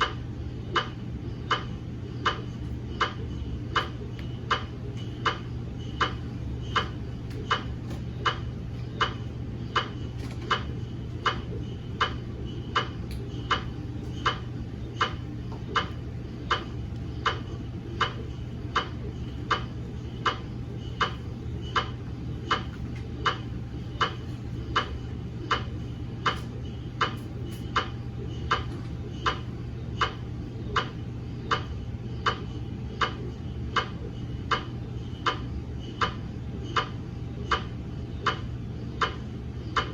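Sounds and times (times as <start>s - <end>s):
mri scanner ticking: 0.0s - 39.9s
steady low hum: 0.0s - 39.9s.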